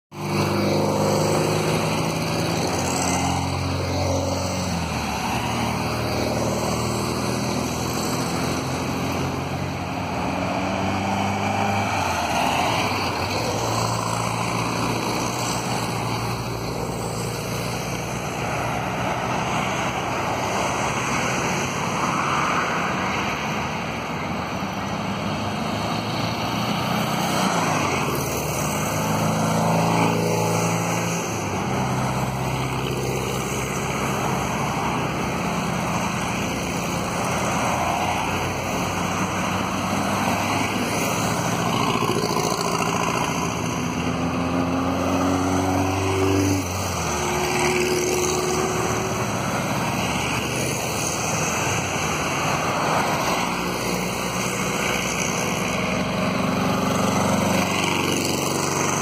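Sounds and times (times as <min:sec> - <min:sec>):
vans driving past: 0:00.1 - 0:59.0.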